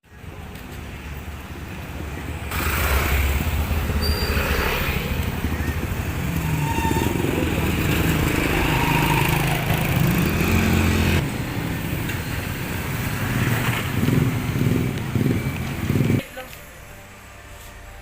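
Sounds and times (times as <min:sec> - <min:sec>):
vehicle engine running: 0:00.9 - 0:16.4.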